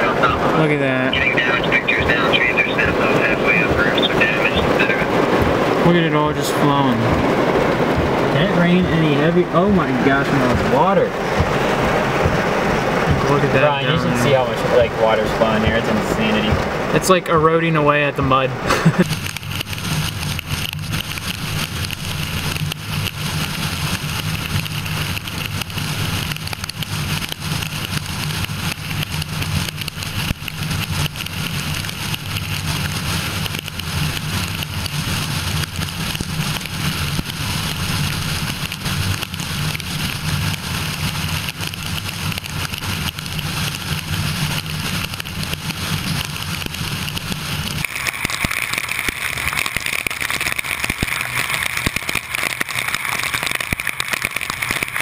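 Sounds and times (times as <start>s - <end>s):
car engine humming: 0.0s - 55.0s
heavy rain hissing: 0.0s - 55.0s.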